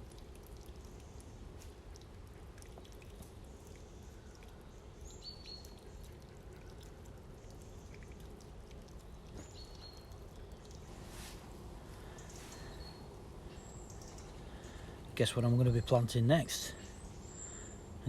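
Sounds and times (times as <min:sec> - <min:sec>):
steady low background noise: 0:00.0 - 0:18.0.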